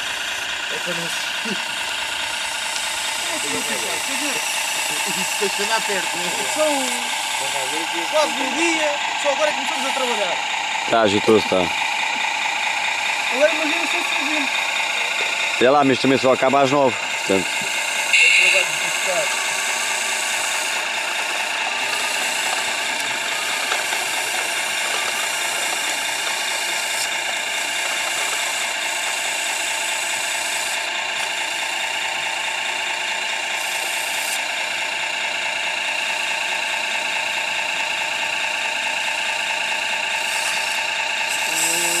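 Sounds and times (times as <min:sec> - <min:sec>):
small electric motors whining: 0:00.0 - 0:42.0.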